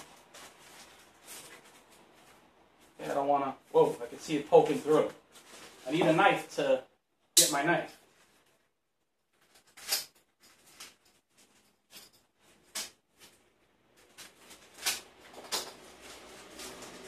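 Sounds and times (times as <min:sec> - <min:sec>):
plastic wrap rustling and crinkling: 0:00.0 - 0:06.6, 0:08.0 - 0:17.0.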